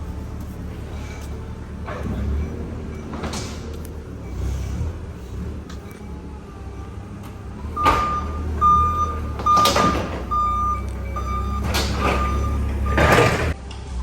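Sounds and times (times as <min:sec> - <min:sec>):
low engine rumble: 0:00.0 - 0:14.0
forklift reversing alarm beeping: 0:00.9 - 0:13.6.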